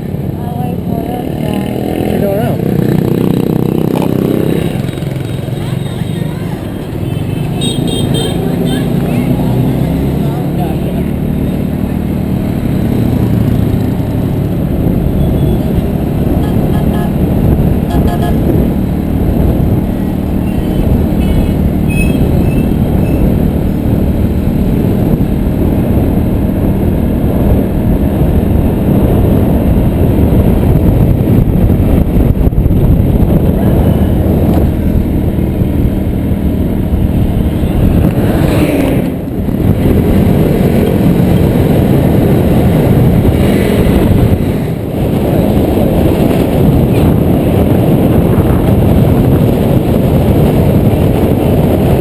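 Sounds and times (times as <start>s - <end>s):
wind rush over microphone: 0.0s - 7.6s, 8.4s - 52.0s.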